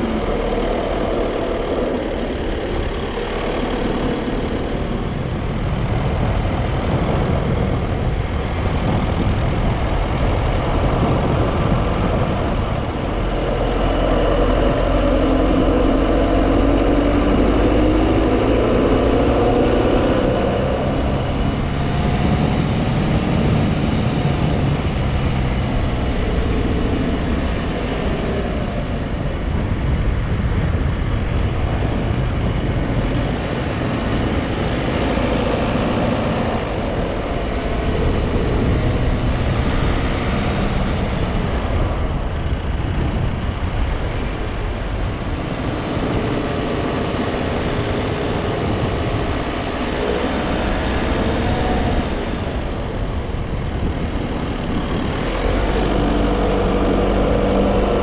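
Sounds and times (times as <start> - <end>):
car engine: 0.0 - 58.0
tyre noise on road: 0.0 - 58.0.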